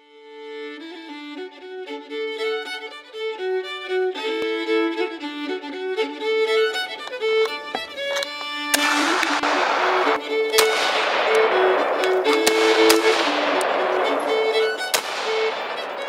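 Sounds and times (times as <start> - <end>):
fiddle playing quick melody: 0.0 - 16.0.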